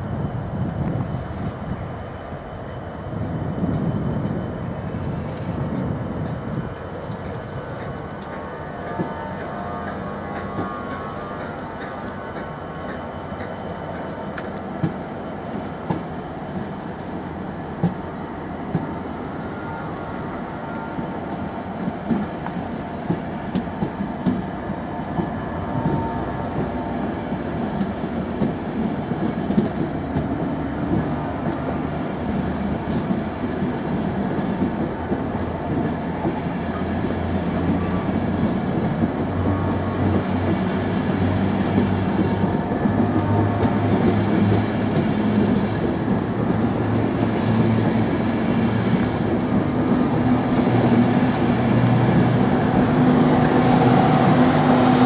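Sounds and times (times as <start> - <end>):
train wheels clicking over rail joints: 0.1 - 19.2, 20.3 - 55.0.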